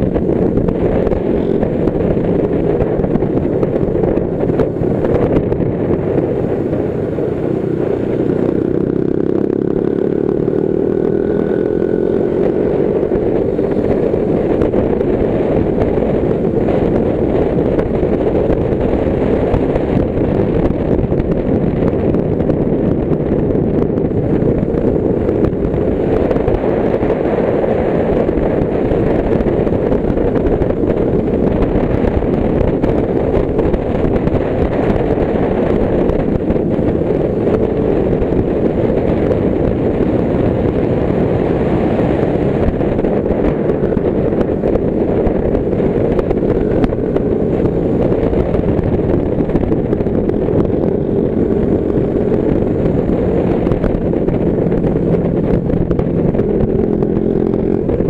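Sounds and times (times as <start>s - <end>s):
motorcycle engine accelerating: 0.0s - 58.0s
wind rumble on microphone: 0.0s - 58.0s.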